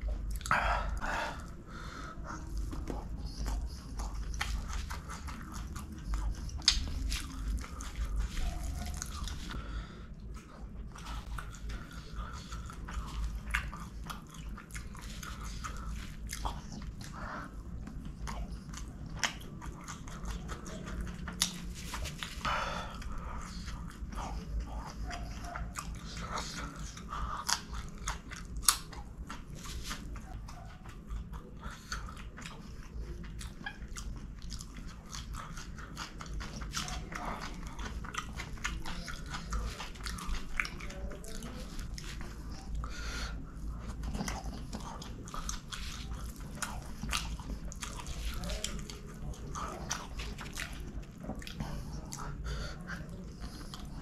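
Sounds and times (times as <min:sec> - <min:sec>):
close chewing with lip smacks: 0:00.0 - 0:54.0.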